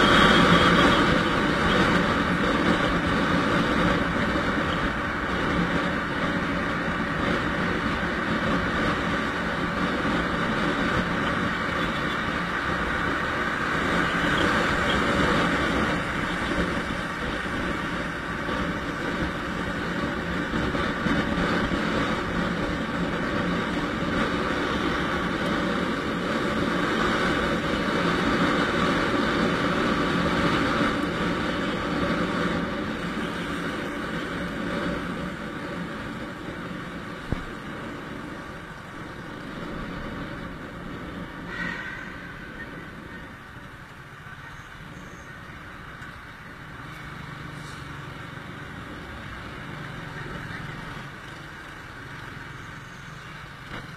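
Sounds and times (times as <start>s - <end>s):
scooter wind and road noise: 0.0s - 53.9s.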